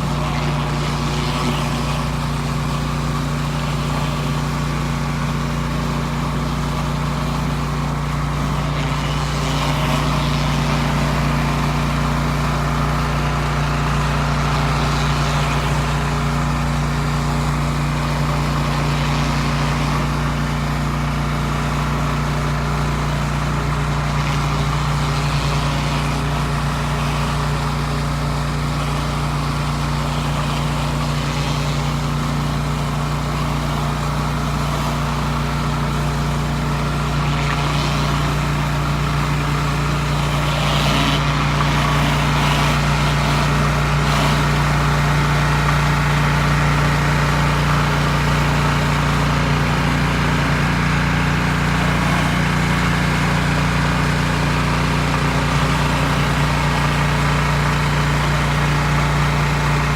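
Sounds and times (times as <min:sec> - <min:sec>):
pressure washer engine humming: 0:00.0 - 0:59.9.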